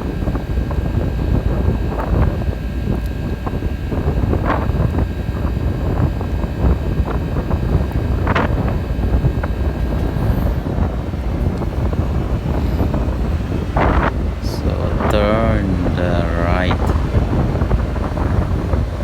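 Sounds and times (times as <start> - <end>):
crane engine low rumble: 0.0 - 19.0
wind buffeting microphone: 0.0 - 19.0.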